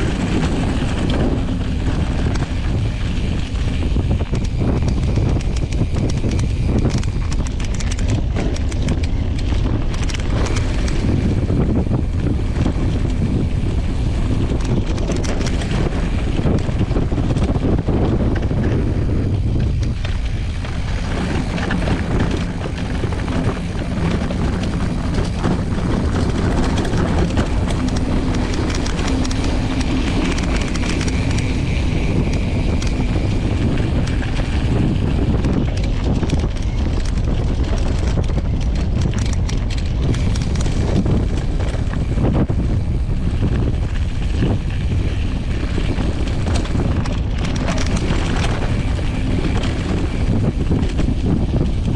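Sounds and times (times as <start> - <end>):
bike clicks and rattles: 0.0 - 51.9
wind rumbling on microphone: 0.0 - 51.9.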